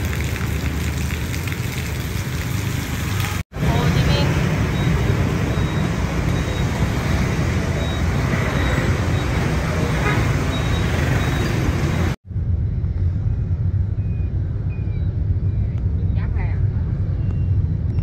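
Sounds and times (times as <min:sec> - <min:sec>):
car road noise rumble with hiss: 0:00.0 - 0:18.0.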